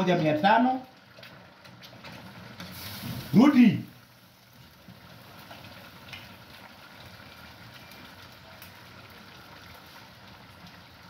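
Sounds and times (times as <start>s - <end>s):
pot simmering: 0.0s - 11.0s.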